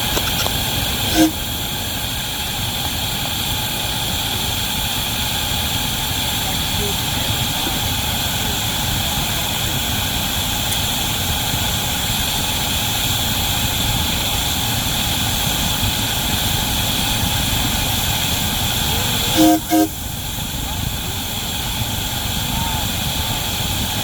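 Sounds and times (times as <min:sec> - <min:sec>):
steam hissing: 0:00.0 - 0:24.0
steam locomotive roaring: 0:00.0 - 0:24.0.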